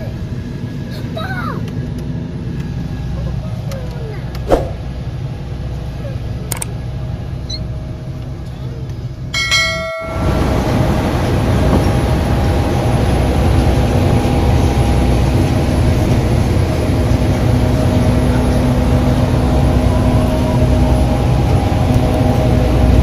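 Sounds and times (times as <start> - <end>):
ferry engines rumbling: 0.0 - 23.0.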